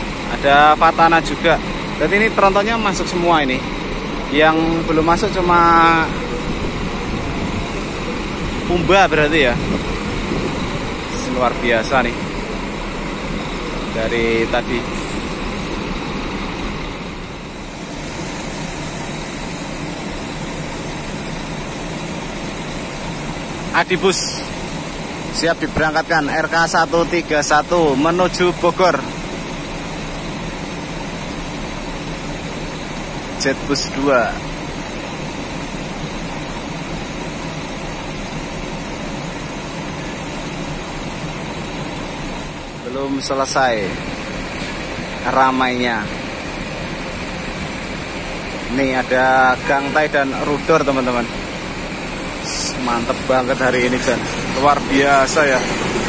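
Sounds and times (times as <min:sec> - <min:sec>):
diesel bus engines idling: 0:00.0 - 0:56.0.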